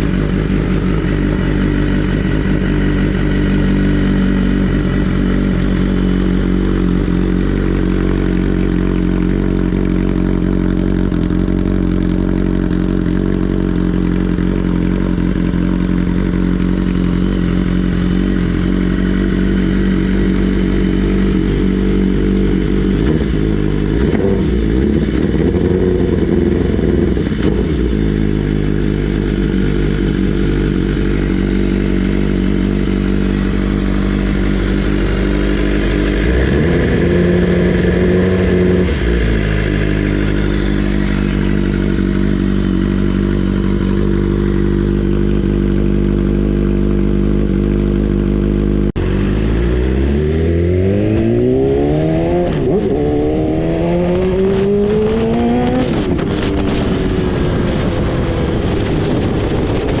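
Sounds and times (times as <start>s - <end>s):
motorcycle engine idling: 0.0s - 50.2s
motorcycle throttle blips: 0.0s - 60.0s.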